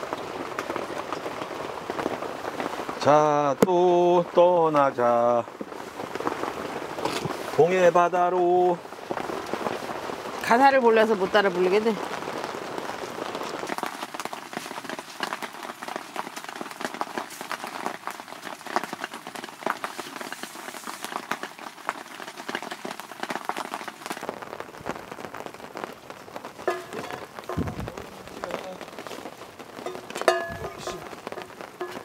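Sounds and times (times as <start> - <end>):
rain drops on a tarp: 0.0 - 32.0.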